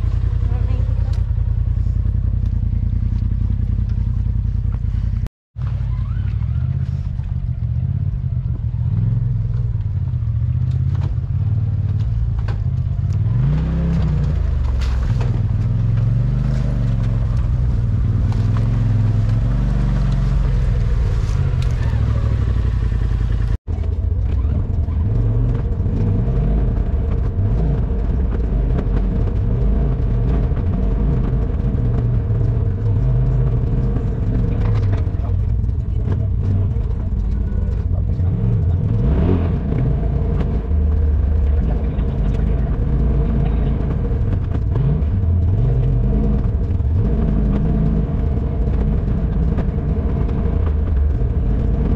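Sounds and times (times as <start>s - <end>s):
engine rumbling and revving: 0.0s - 51.9s.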